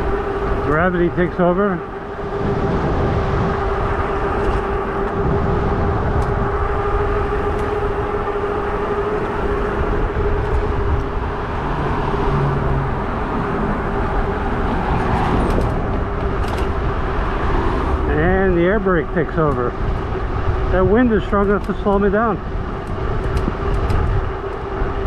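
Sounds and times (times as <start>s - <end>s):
tyres humming on road: 0.0s - 25.0s
wind buffeting microphone: 0.0s - 25.0s.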